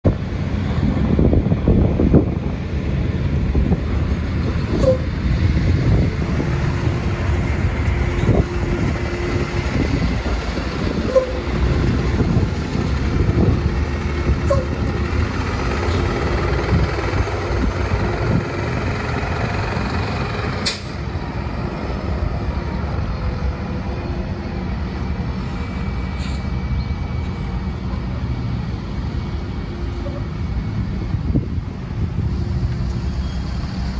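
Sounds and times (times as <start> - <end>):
bus engine rumbling: 0.0 - 33.9.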